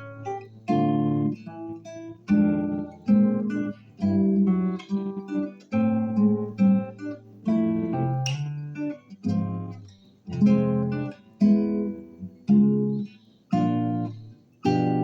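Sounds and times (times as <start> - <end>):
classical guitar chords: 0.0 - 15.0.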